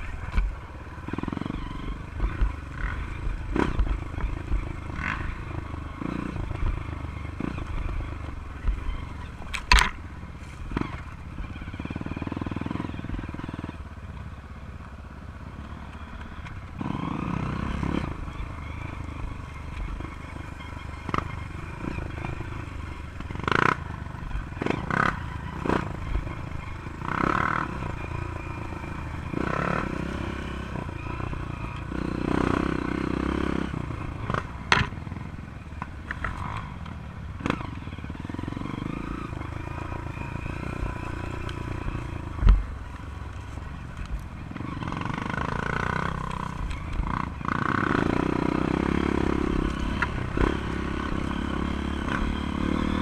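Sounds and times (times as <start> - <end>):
dirt bike engine revving: 0.0 - 14.1, 15.4 - 53.0.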